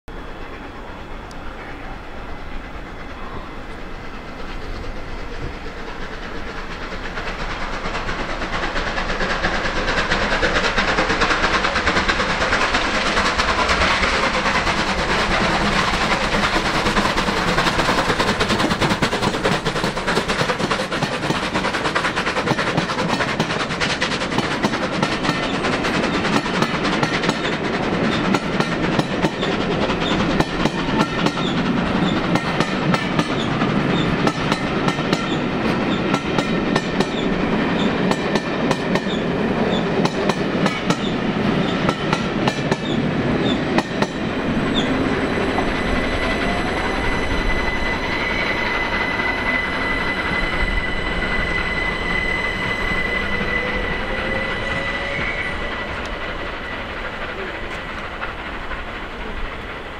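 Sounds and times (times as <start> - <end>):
steam locomotive passing: 0.1 - 59.9
clickety-clack of train wheels: 0.4 - 59.9.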